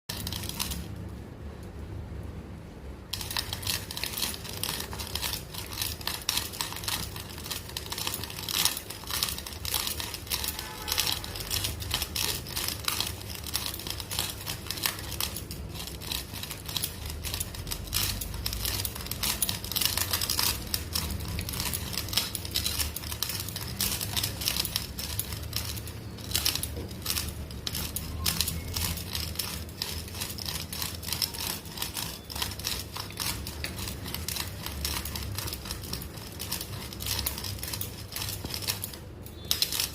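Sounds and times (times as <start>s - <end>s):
dry spices crushed by hand: 0.1s - 1.7s, 3.0s - 39.9s.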